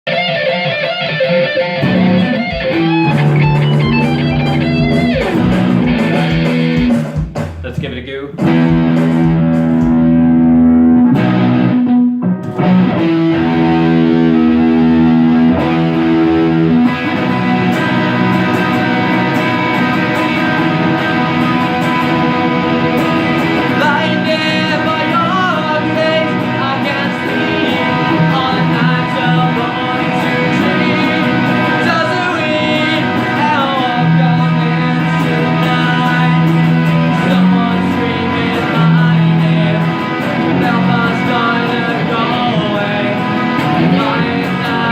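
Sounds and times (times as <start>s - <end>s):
guitar music: 0.0s - 44.9s.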